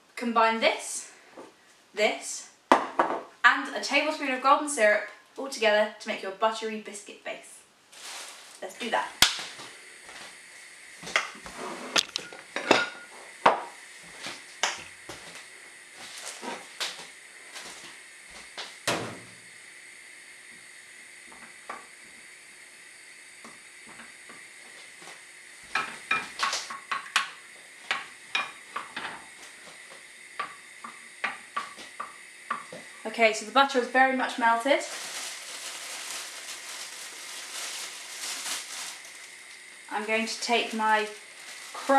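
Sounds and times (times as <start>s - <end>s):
faint hiss: 0.0s - 41.9s.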